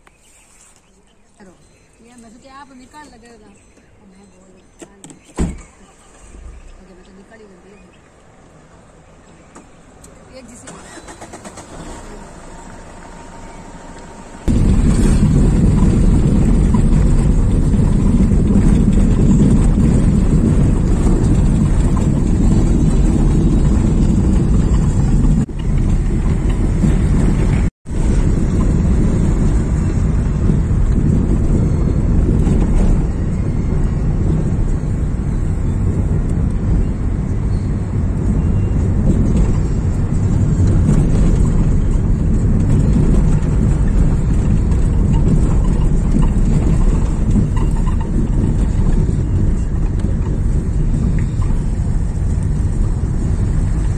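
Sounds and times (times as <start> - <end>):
moving vehicle rumble: 0.0 - 53.9.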